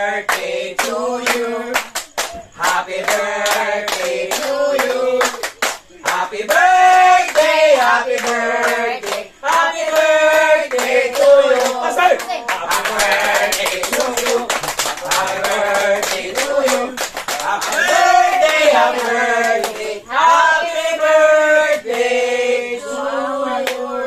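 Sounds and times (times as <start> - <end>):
group singing: 0.0 - 24.0
hand clapping: 0.3 - 20.0.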